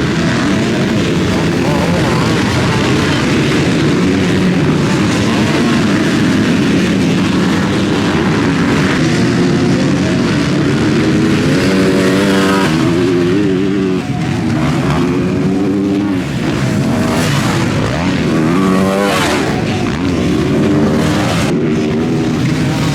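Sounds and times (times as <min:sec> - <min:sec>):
motocross bikes revving: 0:00.0 - 0:22.9.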